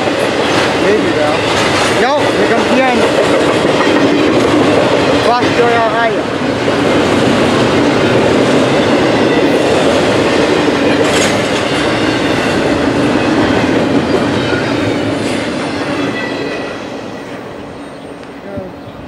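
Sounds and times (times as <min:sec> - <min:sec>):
freight train rumbling and rattling: 0:00.0 - 0:19.0.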